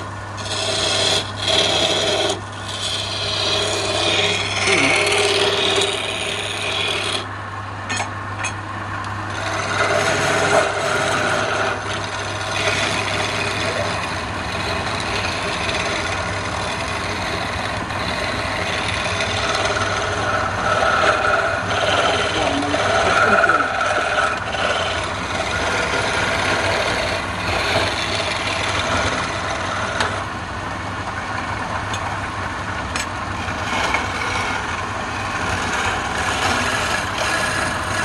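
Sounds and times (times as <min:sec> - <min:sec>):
scraper rasping on spinning wood: 0:00.0 - 0:07.4, 0:09.3 - 0:30.4, 0:32.7 - 0:38.0.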